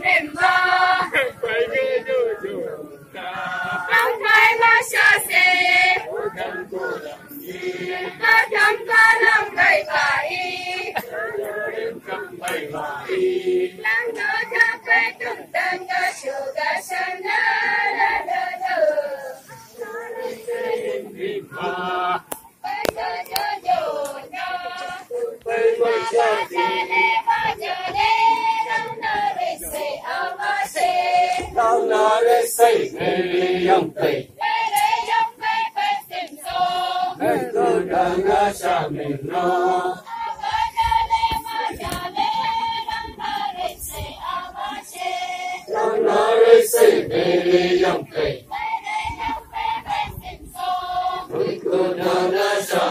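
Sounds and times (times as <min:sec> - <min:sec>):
group singing a chant: 0:00.0 - 0:52.9.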